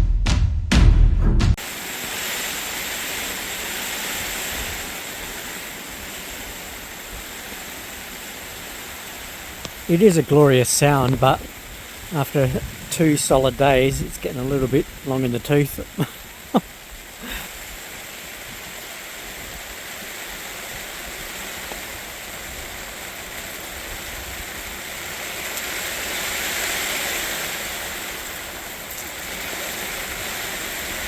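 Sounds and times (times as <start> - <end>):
steady rain falling: 1.6 - 31.0.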